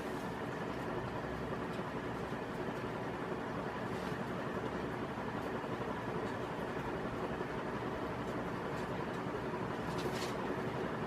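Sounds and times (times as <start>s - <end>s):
ceiling fan moving air: 0.0s - 11.0s
faint fan hum: 0.0s - 11.0s.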